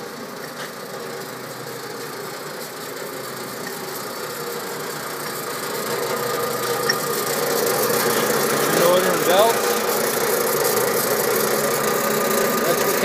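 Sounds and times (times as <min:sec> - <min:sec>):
lathe motor and gear hum: 0:00.0 - 0:13.0.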